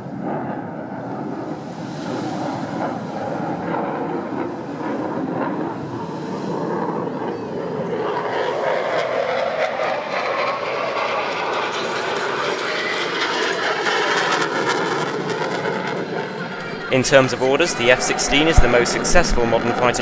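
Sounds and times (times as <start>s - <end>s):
fighter jet engine noise: 0.0s - 20.0s.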